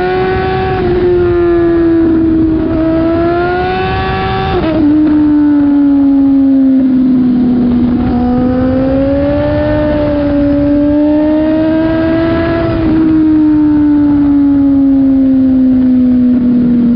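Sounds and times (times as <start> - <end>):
motorcycle engine at high revs: 0.0 - 16.9.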